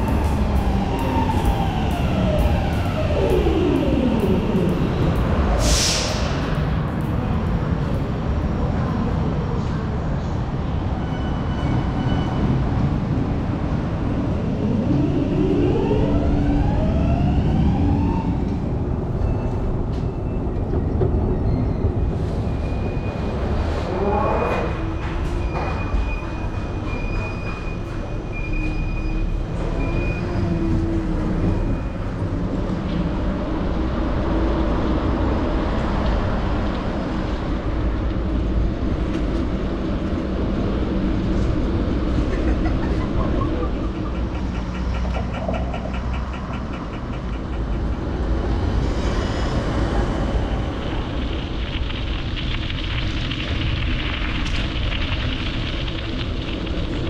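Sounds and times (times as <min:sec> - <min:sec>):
train rumble on board: 0:00.0 - 0:57.0.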